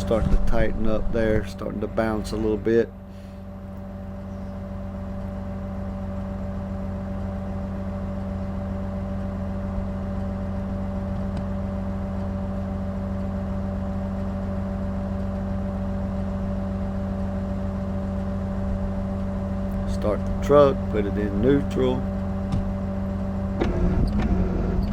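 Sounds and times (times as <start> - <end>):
tow truck engine hum: 0.0 - 24.9
winch whine: 0.0 - 24.9.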